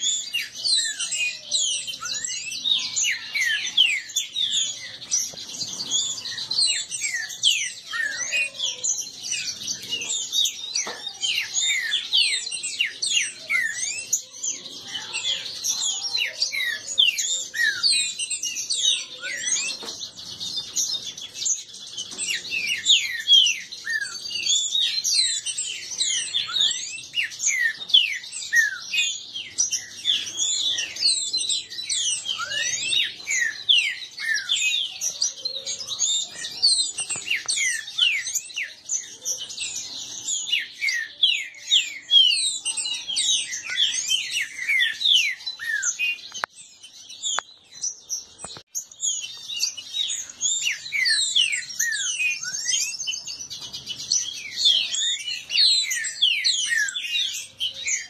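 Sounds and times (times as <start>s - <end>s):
birds singing high chirps: 0.0s - 58.0s.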